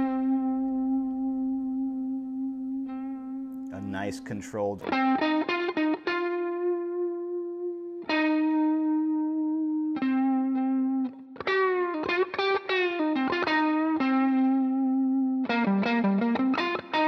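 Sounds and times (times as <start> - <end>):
electric guitar with vibrato: 0.0 - 17.0.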